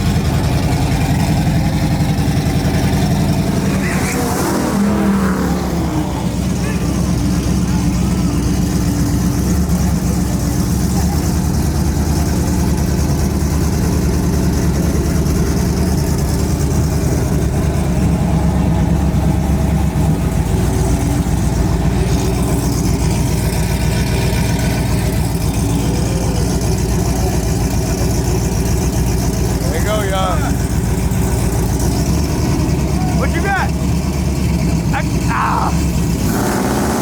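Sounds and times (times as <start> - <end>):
vehicle engines idling: 0.0 - 37.0.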